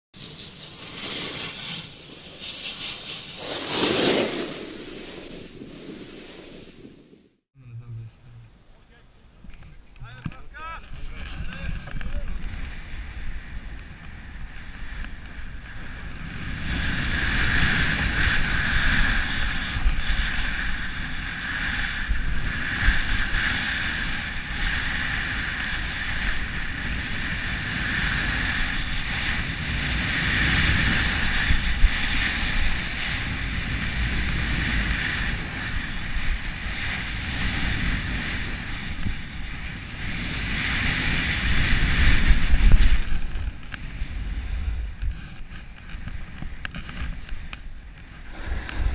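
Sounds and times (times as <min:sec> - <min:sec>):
snowboard scraping through snow: 0:00.2 - 0:07.4, 0:10.9 - 0:48.9
wind rushing over microphone: 0:09.4 - 0:48.9.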